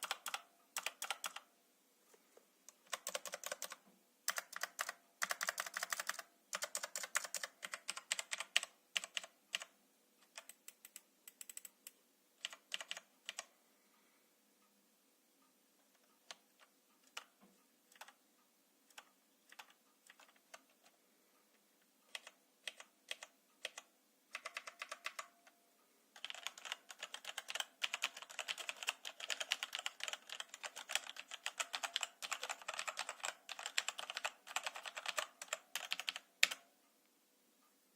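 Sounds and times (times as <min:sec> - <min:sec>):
keyboard typing: 0:00.0 - 0:01.5, 0:02.7 - 0:13.5, 0:15.9 - 0:18.2, 0:18.9 - 0:21.0, 0:22.1 - 0:25.6, 0:26.2 - 0:36.7.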